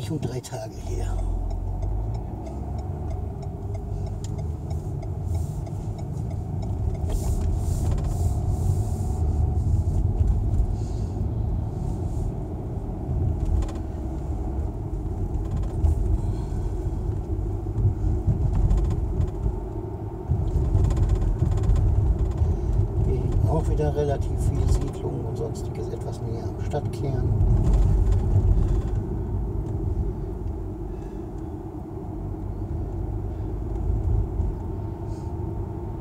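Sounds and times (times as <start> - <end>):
car cabin tyre and engine rumble: 0.0 - 36.0.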